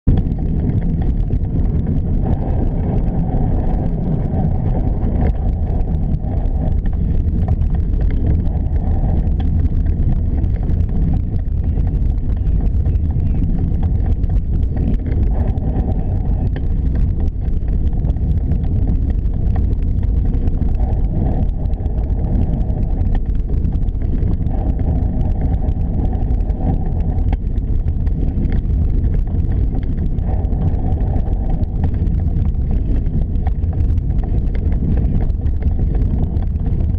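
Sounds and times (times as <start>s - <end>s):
low rumble: 0.0s - 36.9s
wind buffeting microphone: 0.0s - 36.9s
faint rattles: 0.1s - 36.9s.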